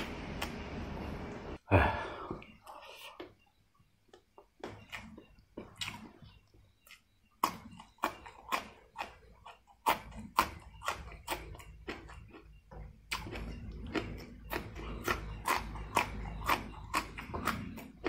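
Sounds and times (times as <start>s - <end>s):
crunchy food chewing: 2.7s - 18.0s.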